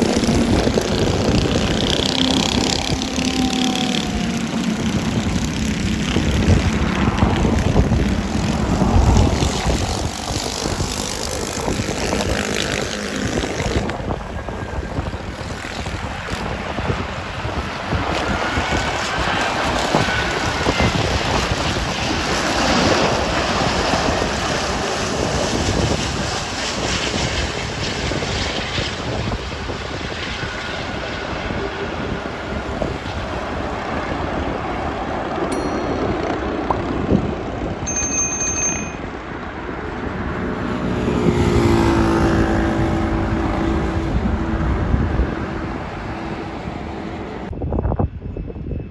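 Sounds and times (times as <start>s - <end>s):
jet airliner rumble: 0.0s - 48.9s
jet engine whine: 0.0s - 48.9s.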